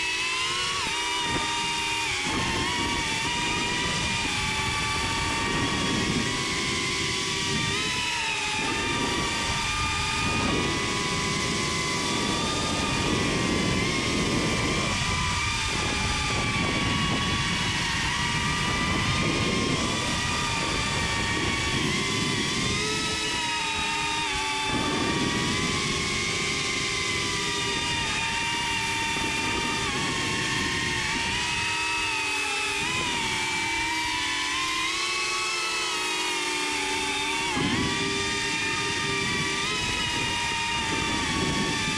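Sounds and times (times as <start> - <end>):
quadcopter motors and propellers whining: 0.0 - 41.9.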